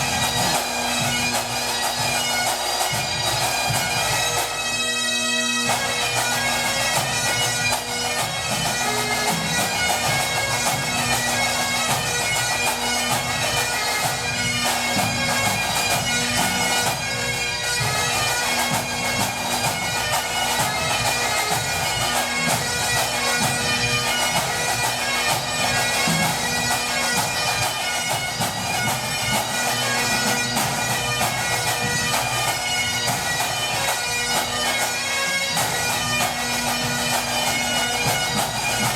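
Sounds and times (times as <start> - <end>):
bagpipes playing over a drone: 0.0 - 38.9.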